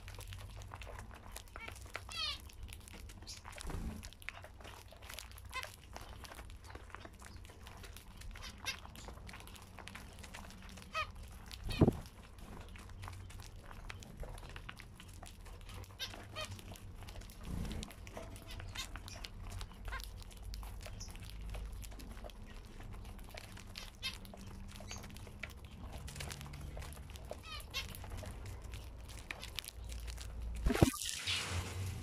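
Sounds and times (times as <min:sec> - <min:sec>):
seed husks cracking clicks: 0:00.0 - 0:31.0.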